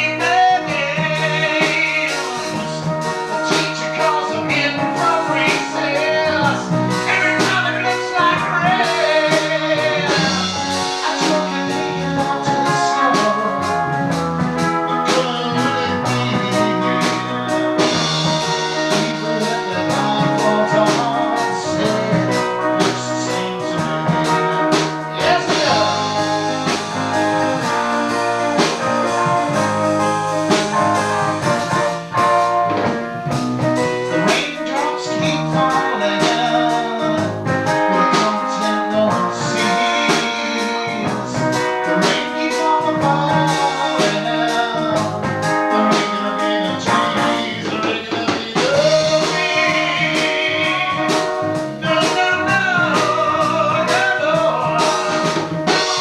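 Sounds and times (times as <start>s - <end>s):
band playing a song: 0.0s - 56.0s
person singing: 0.0s - 56.0s.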